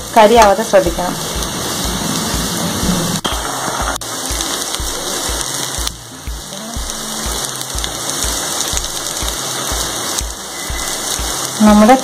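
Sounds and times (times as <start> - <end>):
prawns sizzling in a pan: 0.0 - 12.0.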